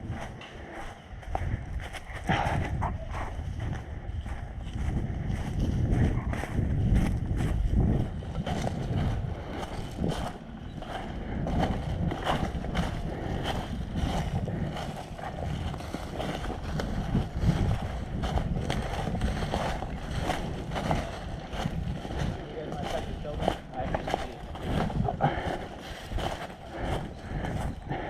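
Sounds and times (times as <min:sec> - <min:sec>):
footsteps crunching through dry leaves: 0:00.0 - 0:28.0
wind buffeting the microphone: 0:00.0 - 0:28.0.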